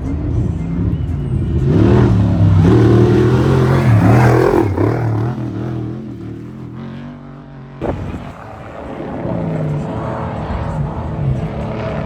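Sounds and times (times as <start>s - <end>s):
off-road vehicle passing at speed: 0.0s - 12.0s.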